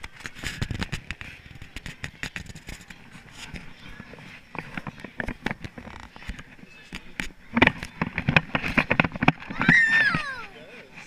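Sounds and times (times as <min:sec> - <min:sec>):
knocks and rustles on camera: 0:00.0 - 0:10.2.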